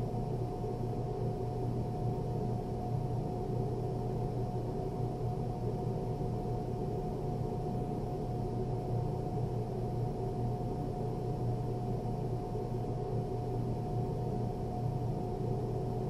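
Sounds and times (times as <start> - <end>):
low hum with faint whine: 0.0 - 16.0.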